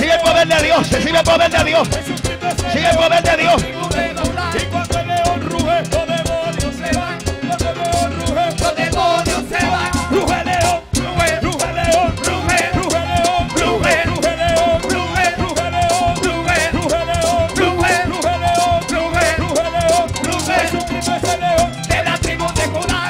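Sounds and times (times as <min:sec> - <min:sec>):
upbeat music with fast drum beat: 0:00.0 - 0:23.0.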